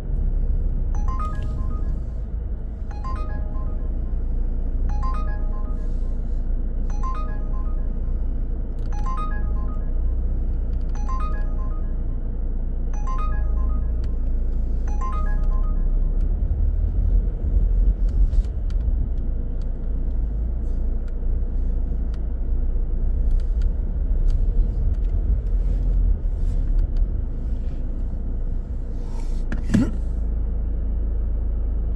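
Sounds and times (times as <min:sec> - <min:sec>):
car driving rumble: 0:00.0 - 0:31.9.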